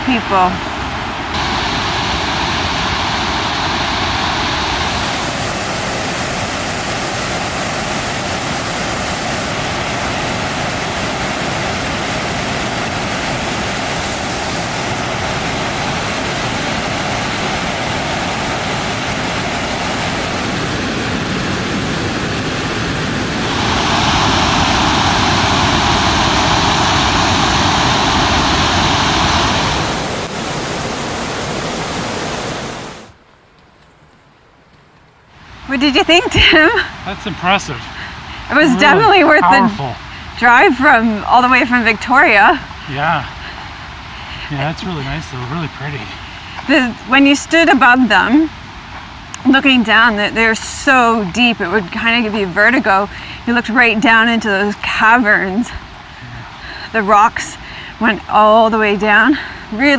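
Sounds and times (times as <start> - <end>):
waterfall rushing: 0.0 - 33.2, 35.3 - 59.9.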